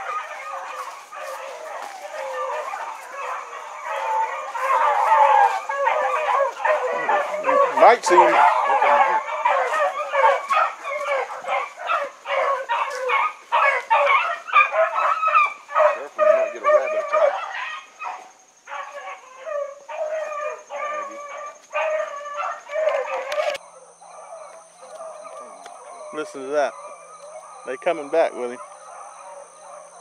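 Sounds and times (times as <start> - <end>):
pack of hounds baying: 0.0 - 30.0.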